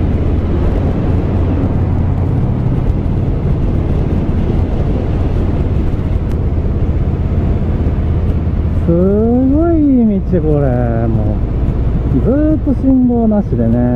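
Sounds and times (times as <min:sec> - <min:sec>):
motorcycle engine running: 0:00.0 - 0:13.0
wind on microphone: 0:00.0 - 0:13.9.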